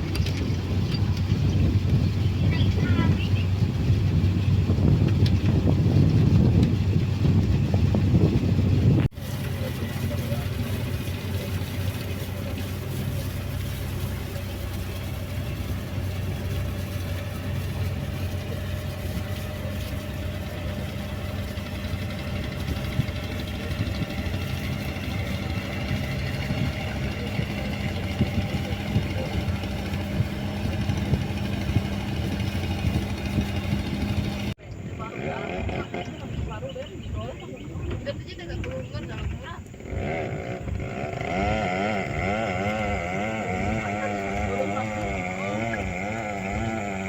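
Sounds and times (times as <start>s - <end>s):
boat engine running: 0.0s - 47.0s.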